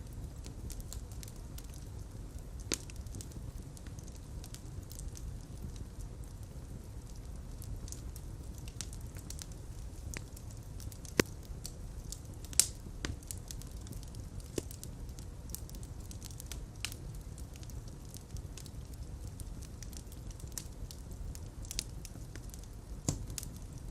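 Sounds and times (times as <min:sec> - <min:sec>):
fire crackling in fireplace: 0:00.0 - 0:23.9.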